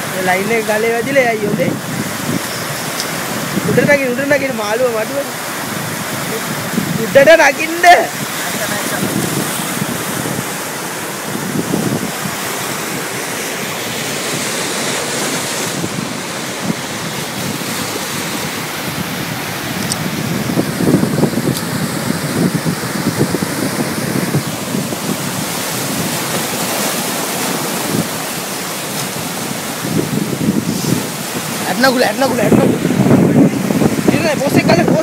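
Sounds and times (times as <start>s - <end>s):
sea waves and surf: 0.0s - 35.0s
wind buffeting microphone: 0.0s - 35.0s.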